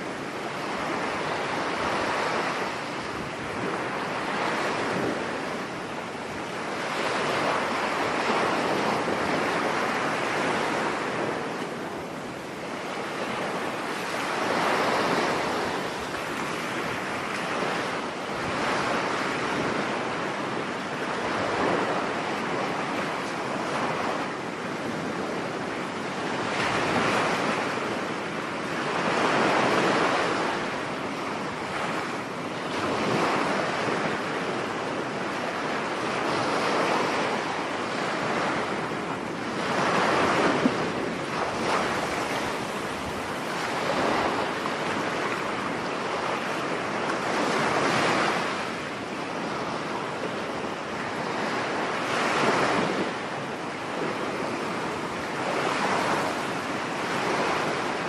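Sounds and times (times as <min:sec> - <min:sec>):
waves breaking on a beach: 0:00.0 - 0:58.0
wind buffeting microphone: 0:00.0 - 0:58.0.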